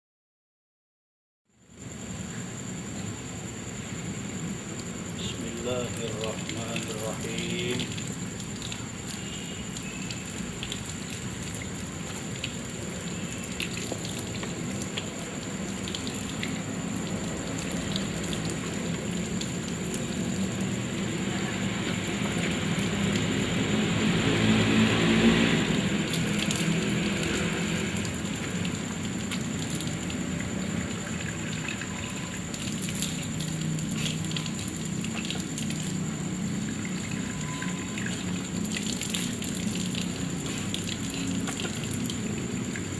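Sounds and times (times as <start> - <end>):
tap water splashing on hands: 5.6 - 42.9.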